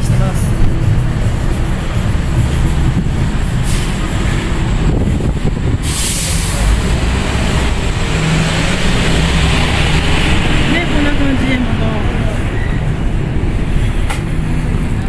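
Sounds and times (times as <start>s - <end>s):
low rumble of heavy vehicles: 0.0s - 15.0s.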